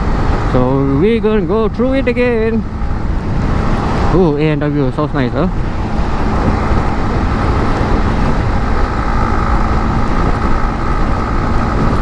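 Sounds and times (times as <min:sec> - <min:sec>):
motorcycle engine drone: 0:00.0 - 0:12.0
wind rush on microphone: 0:00.0 - 0:12.0.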